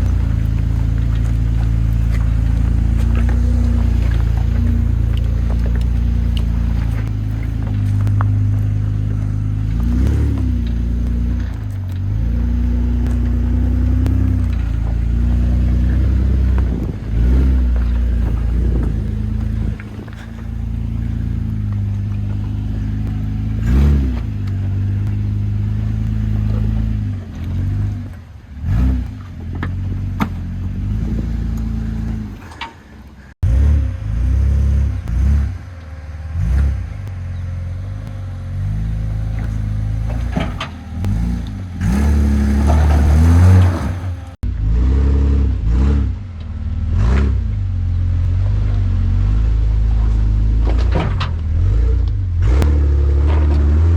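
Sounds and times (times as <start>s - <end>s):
loud car engine revving: 0.0s - 53.9s.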